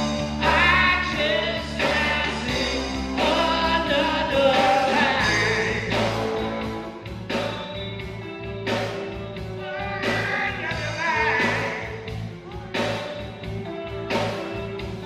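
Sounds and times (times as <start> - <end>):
band music with steady beat: 0.0 - 15.0.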